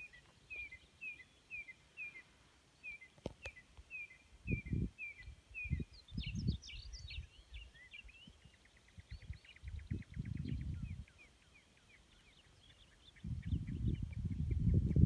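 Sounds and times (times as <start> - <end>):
varied birdsong: 0.0 - 15.0.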